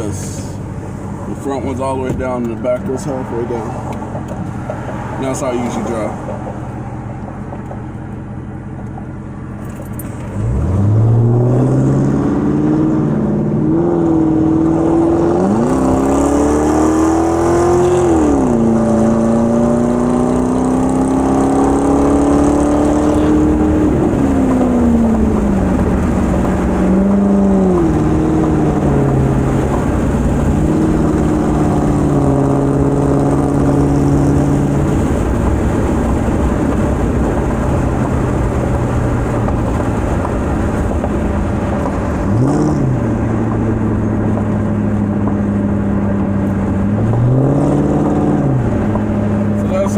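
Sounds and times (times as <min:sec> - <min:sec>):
car engine exhaust roar: 0:00.0 - 0:49.9.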